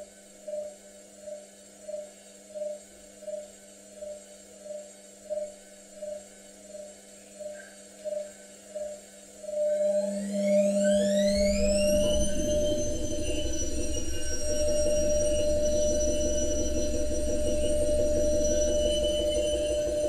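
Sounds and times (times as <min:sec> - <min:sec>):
pulsing whine: 0:00.0 - 0:20.0.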